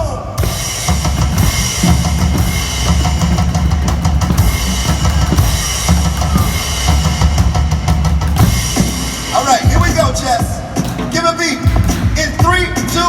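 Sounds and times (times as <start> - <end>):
drum kit beat: 0.4 - 13.0.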